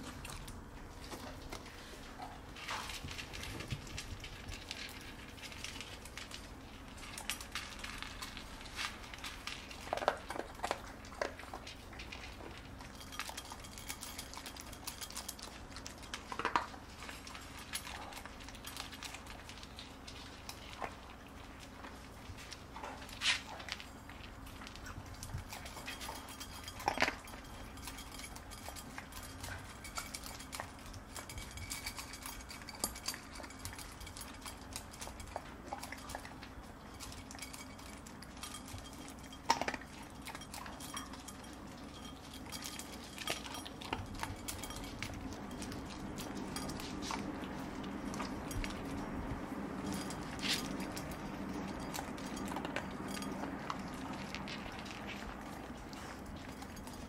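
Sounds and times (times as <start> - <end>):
dog crunching kibble: 0.0 - 57.0.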